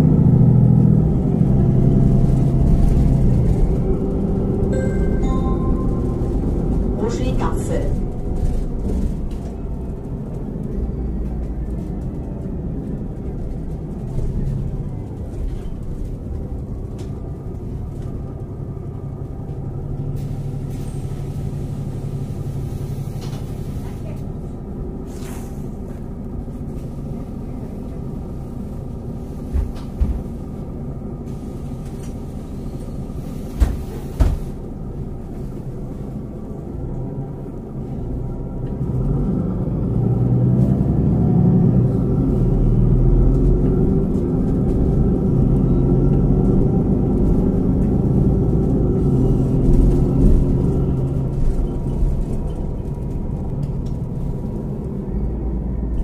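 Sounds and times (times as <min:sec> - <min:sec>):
bus diesel engine rumbling: 0:00.0 - 0:56.0.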